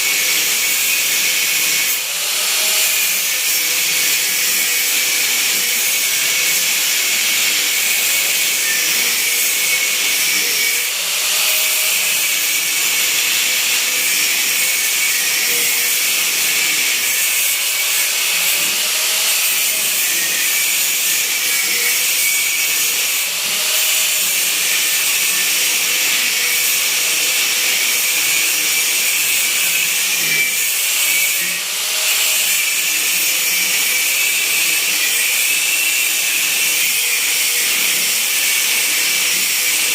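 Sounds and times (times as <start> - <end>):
power tool high-pitched hiss: 0.0 - 39.9.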